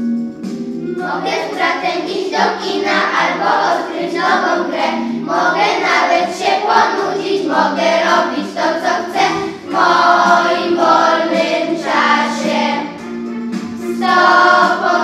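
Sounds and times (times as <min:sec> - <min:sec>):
backing track: 0:00.0 - 0:15.0
children singing in unison: 0:01.0 - 0:13.1, 0:13.8 - 0:15.0.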